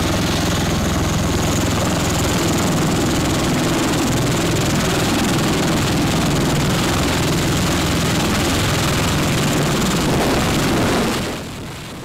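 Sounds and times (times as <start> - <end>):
aircraft rotor and engine noise: 0.0 - 12.0.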